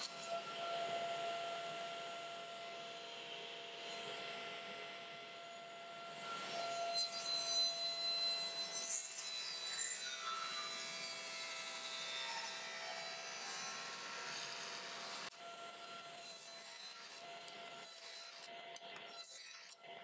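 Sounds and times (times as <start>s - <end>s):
table saw cutting wood: 0.0s - 20.0s.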